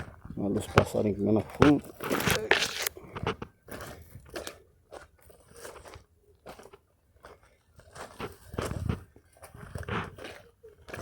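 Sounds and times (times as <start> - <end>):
footsteps crunching on dry ground: 0.0 - 11.0.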